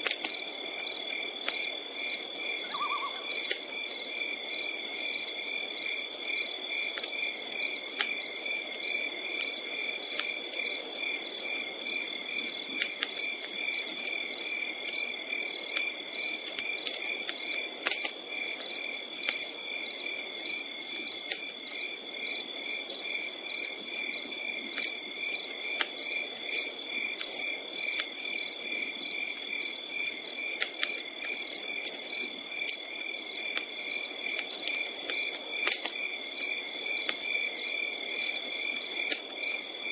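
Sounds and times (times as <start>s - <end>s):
campfire crackling and popping: 0.0s - 39.9s
crickets chirping: 0.2s - 39.9s.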